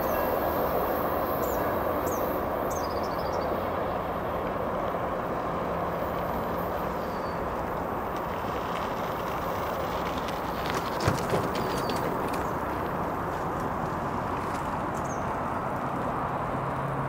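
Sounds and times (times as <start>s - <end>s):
commuter train rumbling past: 0.0s - 17.0s.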